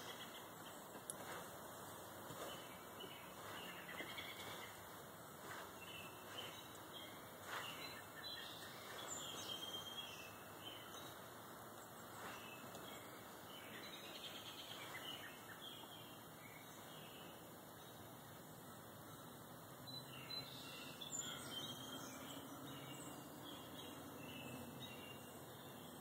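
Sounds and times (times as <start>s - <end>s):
background hiss: 0.0s - 26.0s
birds chirping: 0.0s - 26.0s.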